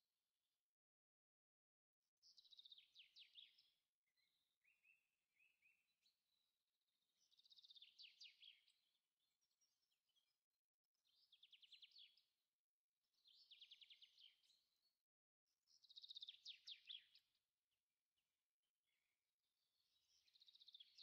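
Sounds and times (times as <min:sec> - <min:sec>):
faint chirping birdsong: 0:02.0 - 0:21.0.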